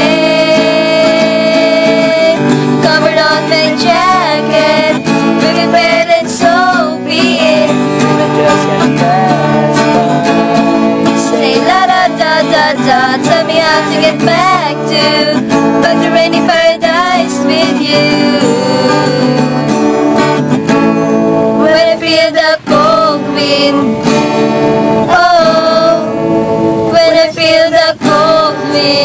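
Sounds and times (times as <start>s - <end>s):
acoustic guitar: 0.0s - 29.0s.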